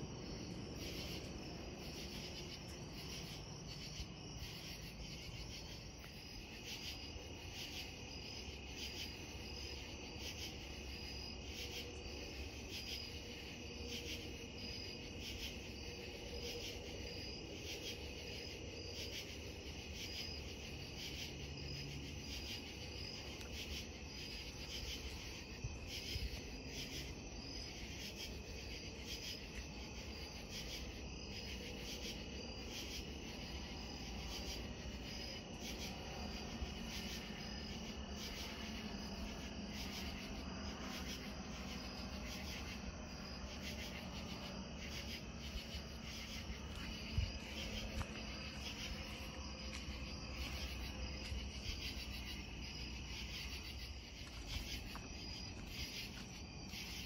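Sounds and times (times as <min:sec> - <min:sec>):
crickets and insects chirring: 0:00.0 - 0:57.0.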